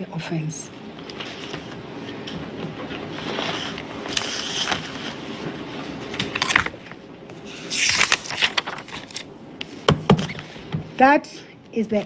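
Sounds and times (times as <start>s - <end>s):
courtroom room noise: 0.0s - 12.0s.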